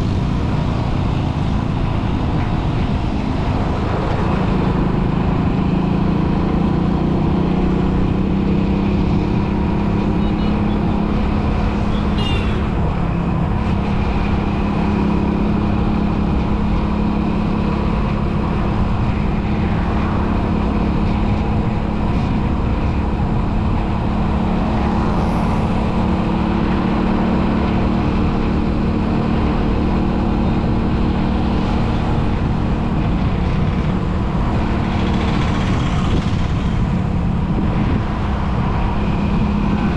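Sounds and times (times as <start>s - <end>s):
road and wind noise: 0.0s - 39.9s
vehicle engine hum: 0.0s - 39.9s.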